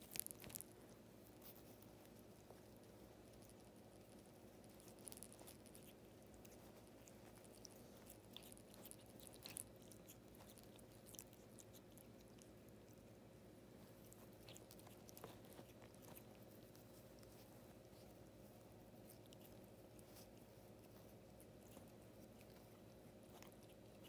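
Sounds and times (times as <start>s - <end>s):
cat chewing straw toy: 0.0s - 24.0s
low steady hum: 0.0s - 24.0s.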